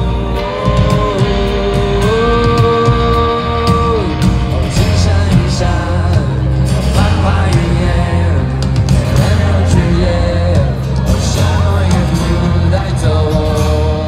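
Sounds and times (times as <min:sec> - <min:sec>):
live rock band playing: 0:00.0 - 0:14.0
man singing: 0:00.0 - 0:14.0.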